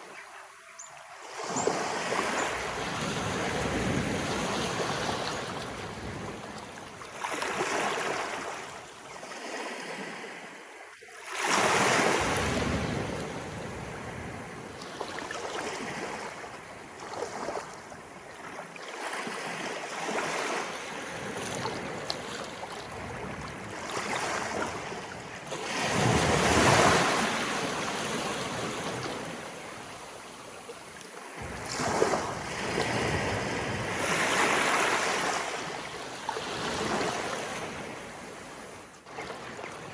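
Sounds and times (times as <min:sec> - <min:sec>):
waves breaking: 0:01.2 - 0:10.3, 0:11.2 - 0:39.9.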